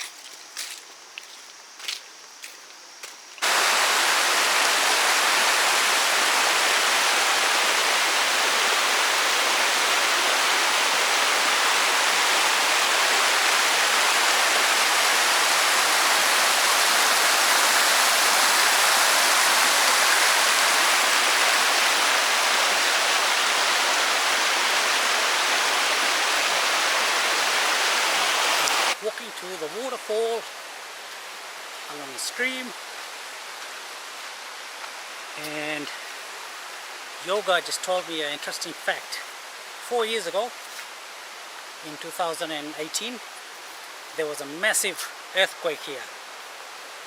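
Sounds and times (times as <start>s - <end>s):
stream water rushing over rocks: 3.4s - 47.0s.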